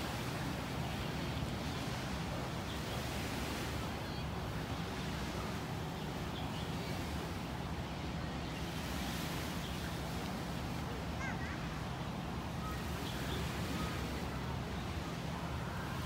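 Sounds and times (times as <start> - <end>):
small waves lapping: 0.0 - 16.0.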